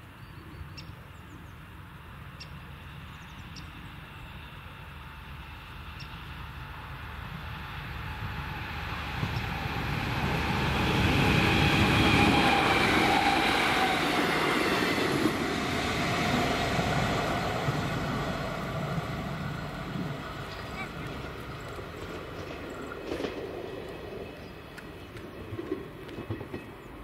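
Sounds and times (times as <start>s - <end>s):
passenger train rumble: 0.0s - 27.0s.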